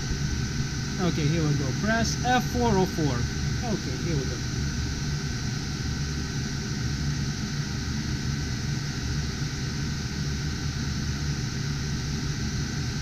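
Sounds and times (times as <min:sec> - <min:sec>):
low hum: 0:00.0 - 0:10.7
cooling fans whirring: 0:00.0 - 0:13.0
thin steady whine: 0:00.0 - 0:13.0.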